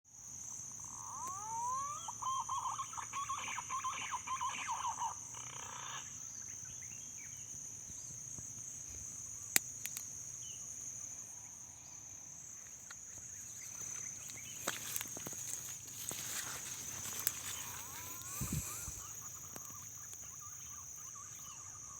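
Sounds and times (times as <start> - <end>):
high insect drone: 0.1 - 21.9.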